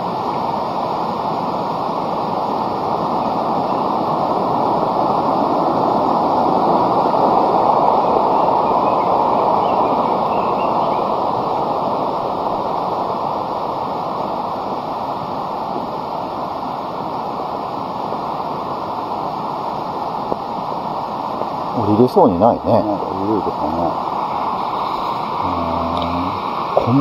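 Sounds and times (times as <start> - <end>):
rush of flowing water: 0.0 - 27.0.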